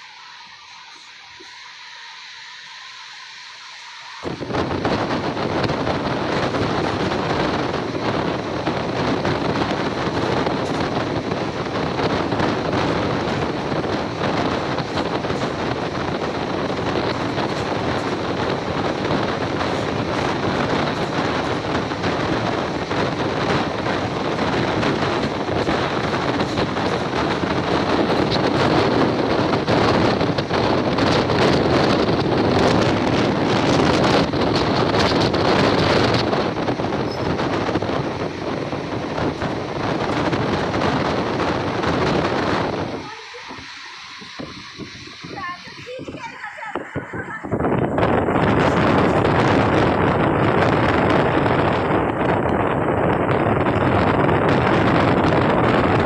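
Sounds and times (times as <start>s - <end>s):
train running on rails: 0.0s - 56.0s
wind buffeting microphone: 4.0s - 56.0s.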